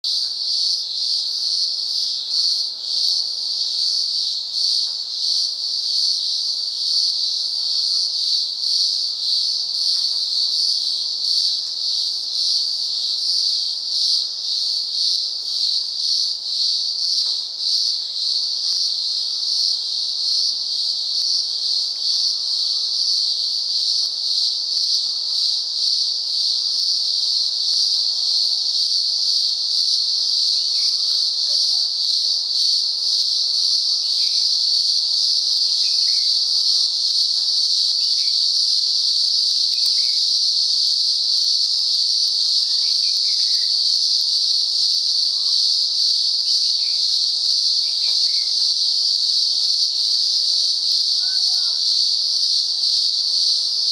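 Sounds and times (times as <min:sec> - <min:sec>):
cicadas droning: 0:00.0 - 0:53.9.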